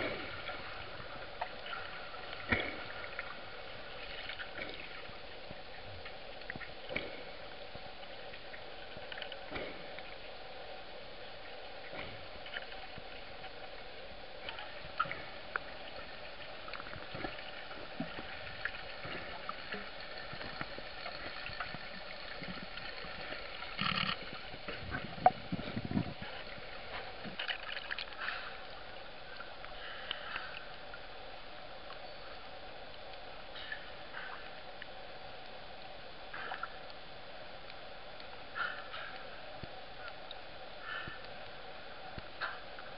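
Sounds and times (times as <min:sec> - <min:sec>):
steady underwater hum: 0:00.0 - 0:42.9
water bubbling and gurgling: 0:00.0 - 0:42.9.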